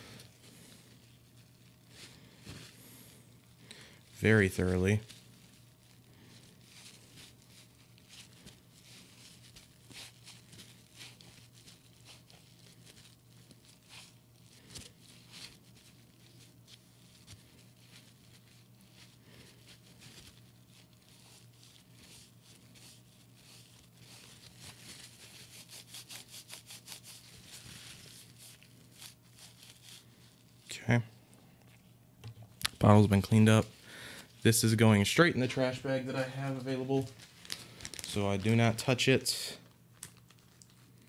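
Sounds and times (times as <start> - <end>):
paper towel rustling and crinkling: 0.0 - 30.9, 32.6 - 41.0
low steady hum: 0.0 - 41.0.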